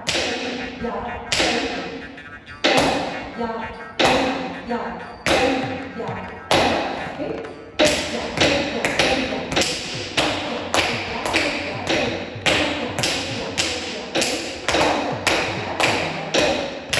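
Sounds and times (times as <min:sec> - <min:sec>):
wooden stick beating wooden block: 0:00.0 - 0:16.9.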